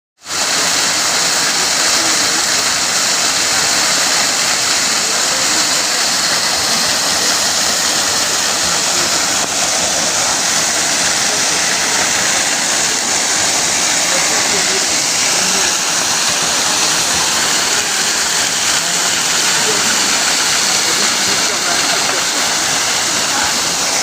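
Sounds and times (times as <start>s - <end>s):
river rushing: 0.3s - 24.0s.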